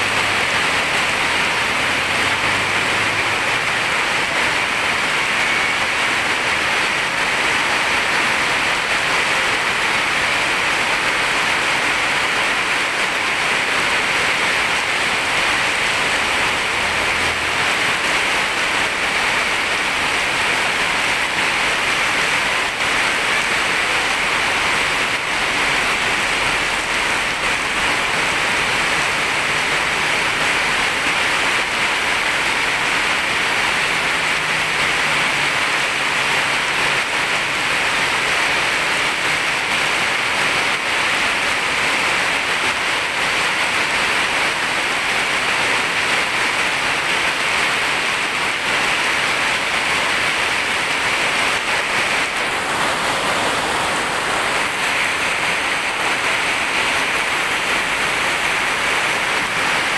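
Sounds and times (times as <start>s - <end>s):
heavy rain on road: 0.0s - 59.9s.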